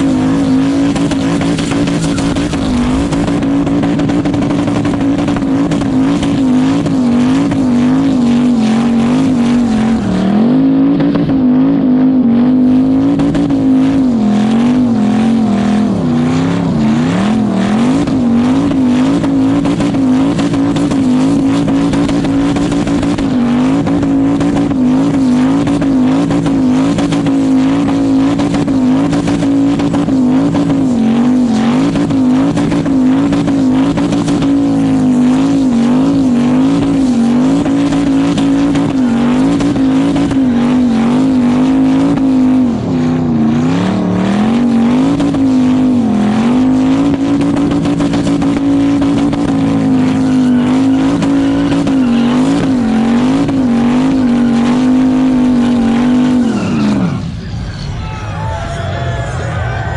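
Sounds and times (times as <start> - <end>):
engine revving high: 0.0 - 57.5
spinning tires hissing: 0.0 - 58.6.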